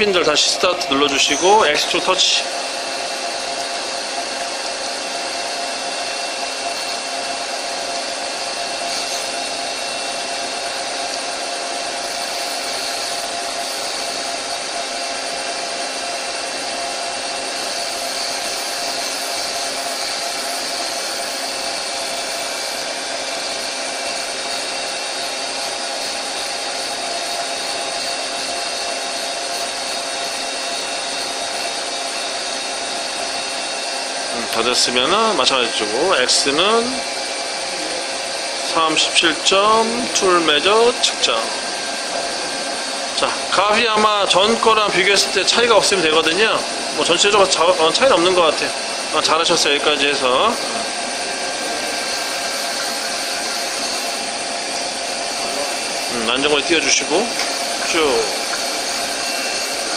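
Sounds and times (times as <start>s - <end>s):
lathe spindle whirring: 0.0s - 59.9s.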